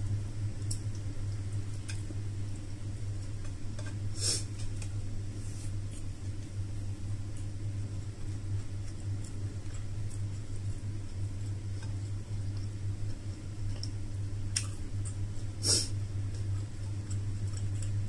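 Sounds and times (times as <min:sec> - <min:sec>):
steady low hum: 0:00.0 - 0:18.0
person chewing: 0:03.1 - 0:18.0.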